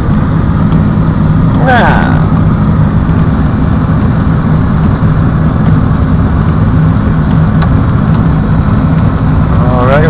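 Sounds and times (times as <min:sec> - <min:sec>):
car engine and cabin rumble: 0:00.0 - 0:10.0.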